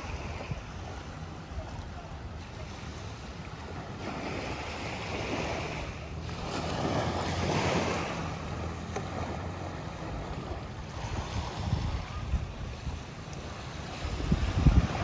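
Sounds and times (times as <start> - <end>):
small waves washing on shore: 0.0 - 15.0
wind rumbling on microphone: 0.0 - 15.0.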